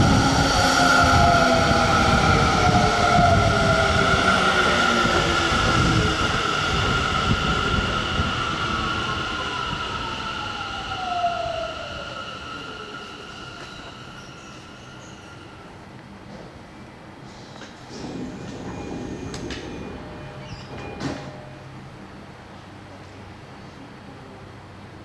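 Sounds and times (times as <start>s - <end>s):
high brake squeal: 0.1s - 16.3s, 17.3s - 21.8s.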